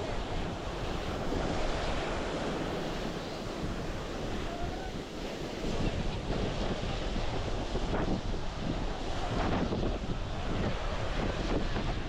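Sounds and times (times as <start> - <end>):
sea surf washing onto beach: 0.0 - 12.0
wind gusting on microphone: 0.0 - 12.0.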